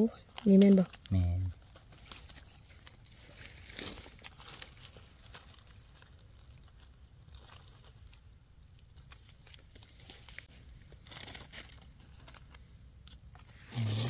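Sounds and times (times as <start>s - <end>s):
dry leaves rustling and crunching: 0.2s - 12.7s.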